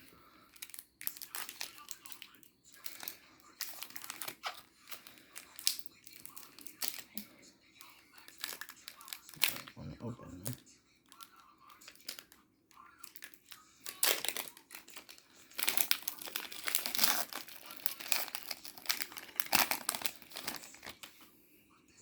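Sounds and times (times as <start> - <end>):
foil wrapper tearing and crinkling: 0.5 - 7.2, 7.8 - 9.7, 11.1 - 12.4, 13.0 - 21.2.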